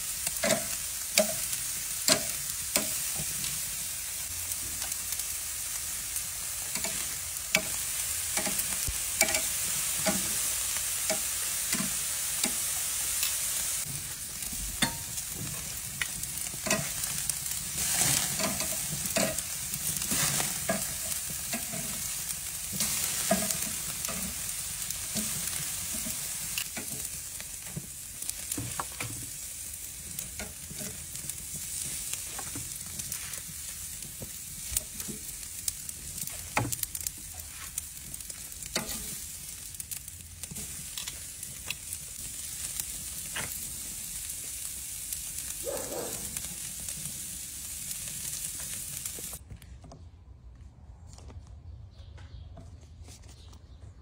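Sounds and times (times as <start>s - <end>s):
steaks sizzling on a grill: 0.0s - 49.4s.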